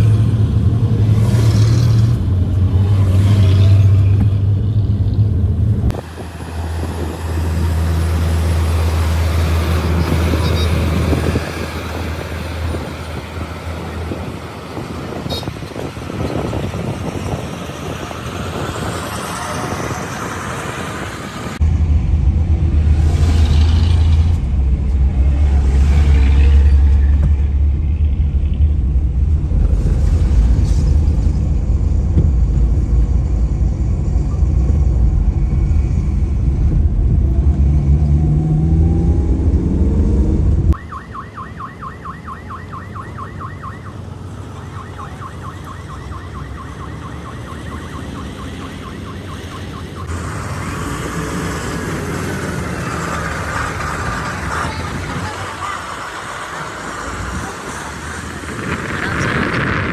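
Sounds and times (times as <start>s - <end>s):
truck engine rumbling: 0.0s - 59.9s.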